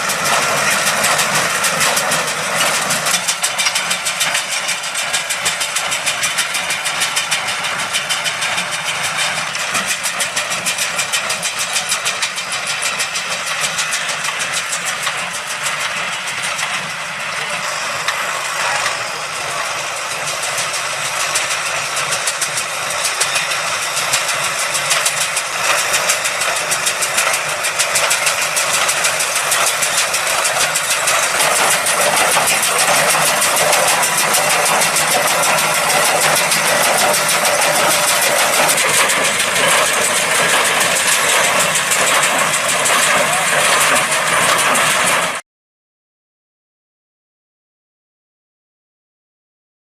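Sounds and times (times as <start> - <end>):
baler working: 0.0 - 45.4
tractor diesel engine running: 0.0 - 45.4.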